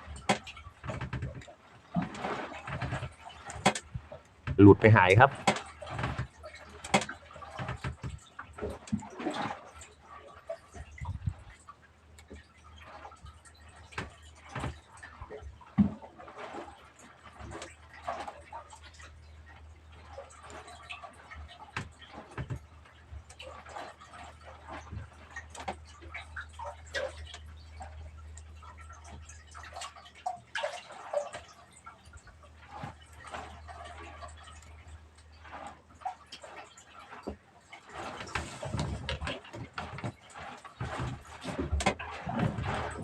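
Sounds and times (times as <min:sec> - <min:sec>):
waves lapping against boat hull: 0:00.0 - 0:43.0.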